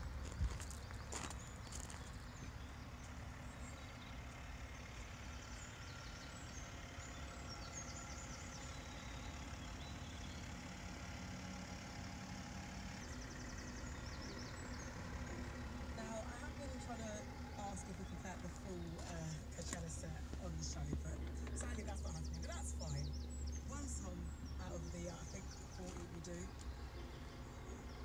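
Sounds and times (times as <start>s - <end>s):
birds chirping: 0.0s - 28.0s
diesel engine idling: 0.0s - 28.0s.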